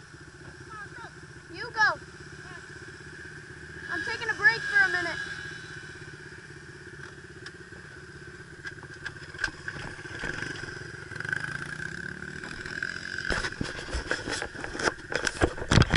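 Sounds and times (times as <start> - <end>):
dirt bike engine idling: 0.0 - 15.9.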